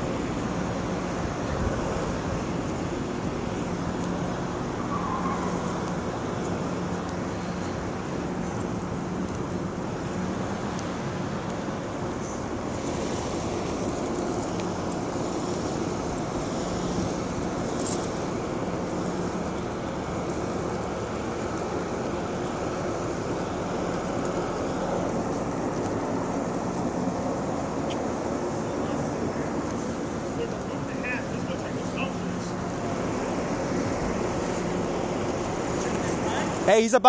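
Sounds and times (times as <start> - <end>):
road noise: 0.0 - 37.0
vehicle engine: 0.0 - 37.0.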